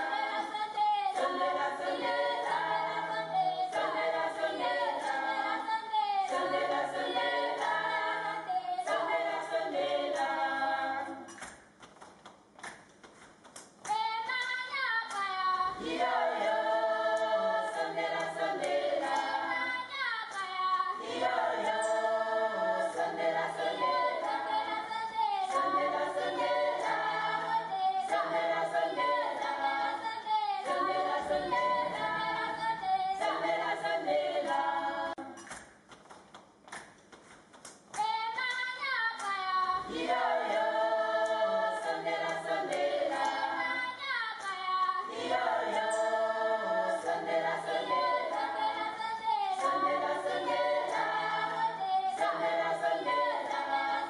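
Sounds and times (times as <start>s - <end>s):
group singing a cappella: 0.0s - 11.6s, 13.9s - 35.6s, 38.0s - 54.0s.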